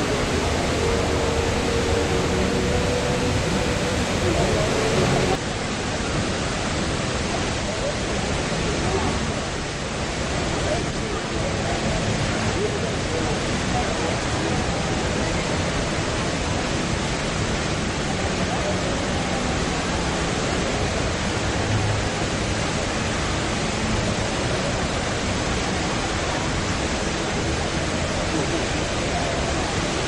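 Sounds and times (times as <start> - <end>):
rush of falling water: 0.0 - 30.0.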